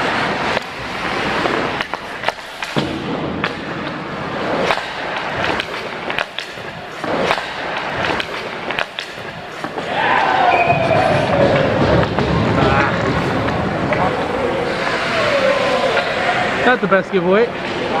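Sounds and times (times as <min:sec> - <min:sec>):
ice skates scraping on ice: 0:00.0 - 0:02.8, 0:03.7 - 0:18.0
hockey sticks and puck knocking: 0:00.4 - 0:15.2.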